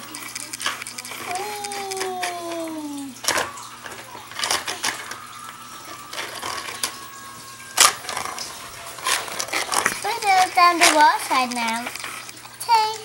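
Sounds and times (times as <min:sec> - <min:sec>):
plastic toy pieces clicking: 0:00.1 - 0:07.1, 0:07.7 - 0:13.0.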